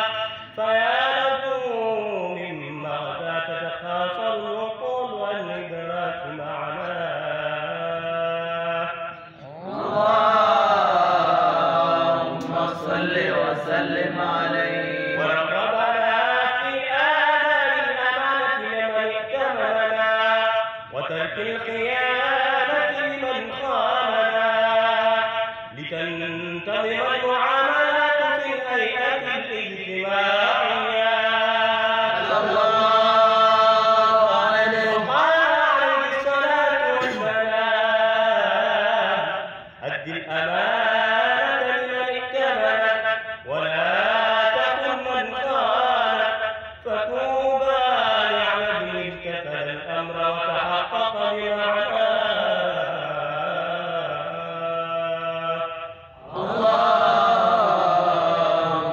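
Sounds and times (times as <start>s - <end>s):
man chanting into a microphone: 0.0s - 58.9s.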